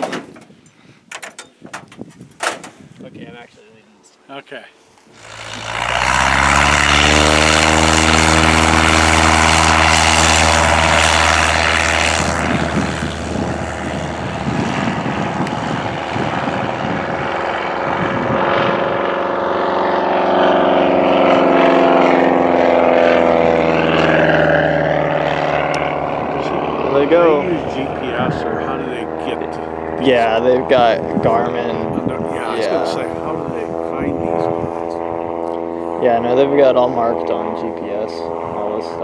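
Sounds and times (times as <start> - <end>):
propeller airplane engine: 4.7 - 39.0.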